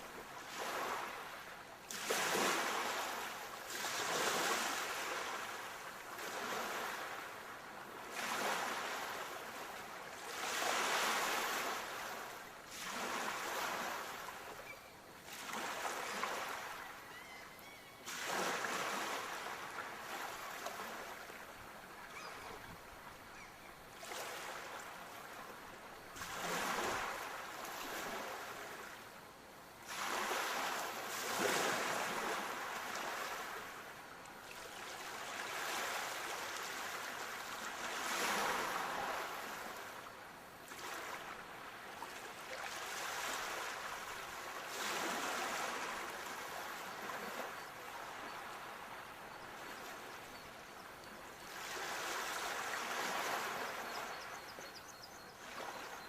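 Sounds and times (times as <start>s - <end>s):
sea waves breaking on shore: 0.0s - 14.6s, 15.2s - 17.0s, 18.1s - 29.1s, 29.8s - 54.3s.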